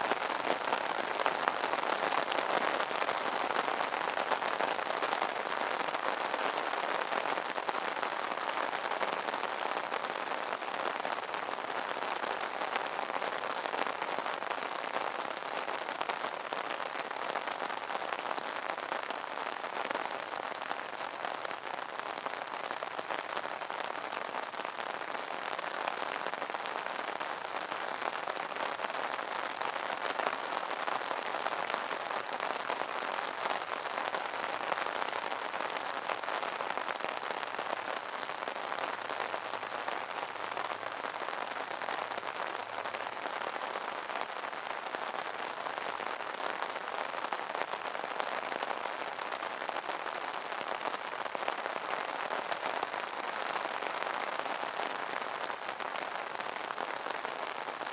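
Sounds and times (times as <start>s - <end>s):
rain on an umbrella: 0.0s - 57.9s.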